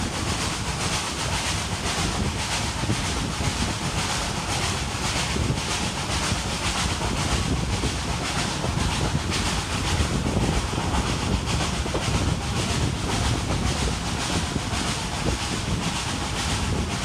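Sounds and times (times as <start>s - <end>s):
steam locomotive chuffing: 0.0s - 17.0s
train rumbling on rails: 0.0s - 17.0s.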